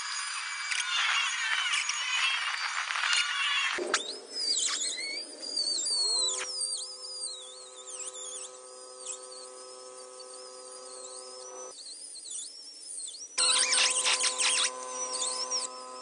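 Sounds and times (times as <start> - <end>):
small electric power tool running: 0.0 - 3.8, 5.0 - 16.0
high wavering squeal: 0.0 - 16.0.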